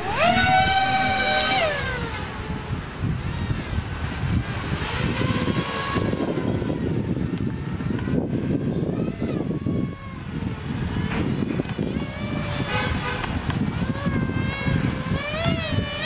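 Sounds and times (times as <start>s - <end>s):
drone propellers whining: 0.0s - 16.0s
wind rumble on microphone: 0.0s - 16.0s.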